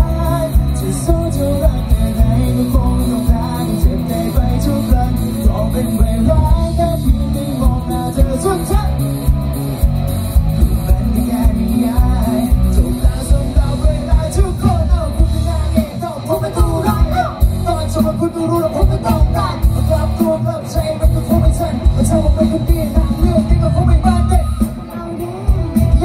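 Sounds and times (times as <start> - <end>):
person singing: 0.0 - 9.6, 10.6 - 26.0
live pop-rock band: 0.0 - 26.0
steady drum beat: 0.0 - 26.0.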